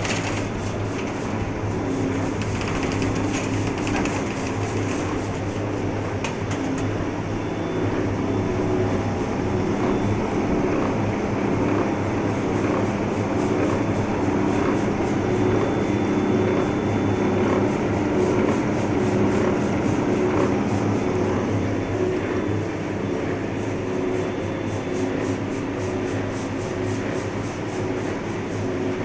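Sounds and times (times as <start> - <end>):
lathe mechanical drone: 0.0 - 29.0.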